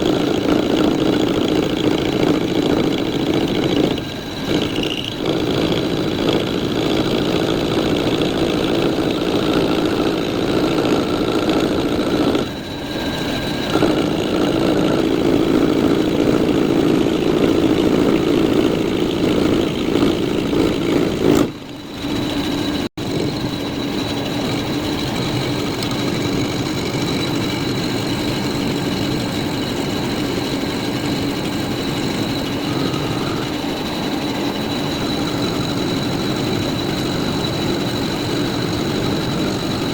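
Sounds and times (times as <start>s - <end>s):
lathe running: 0.0s - 39.9s
machine shop noise: 0.0s - 39.9s.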